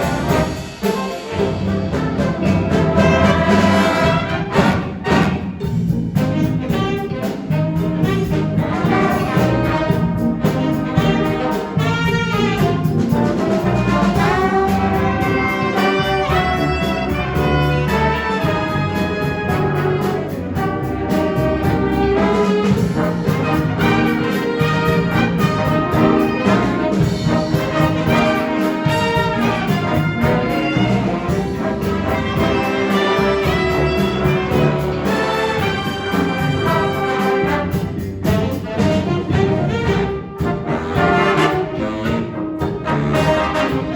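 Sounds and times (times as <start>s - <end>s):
jazz band playing: 0.0s - 43.9s.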